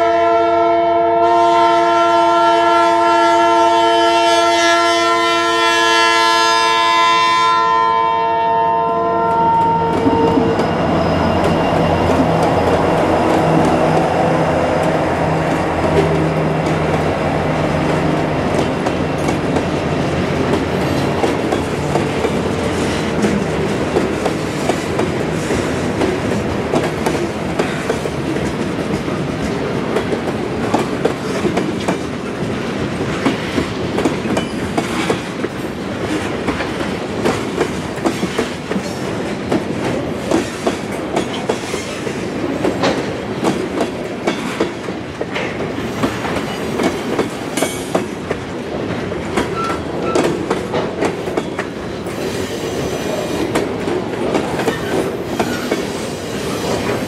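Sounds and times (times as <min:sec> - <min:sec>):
freight train rumble: 0:00.0 - 0:57.0
train wheels clacking over rail joints: 0:09.9 - 0:57.0.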